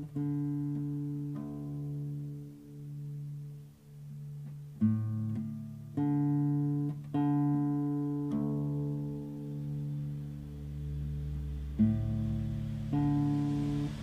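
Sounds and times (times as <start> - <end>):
guitar strings plucked: 0.0 - 14.0
low steady hum: 0.0 - 14.0.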